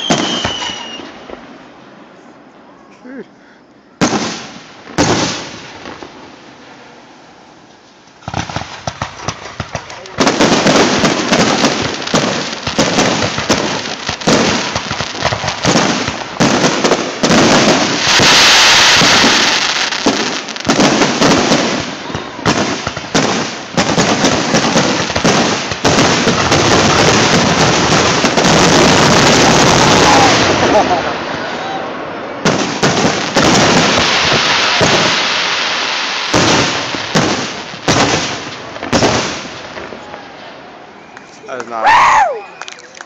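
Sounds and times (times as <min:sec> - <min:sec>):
fireworks booming and crackling: 0:00.0 - 0:01.9, 0:04.0 - 0:07.1, 0:08.0 - 0:41.8.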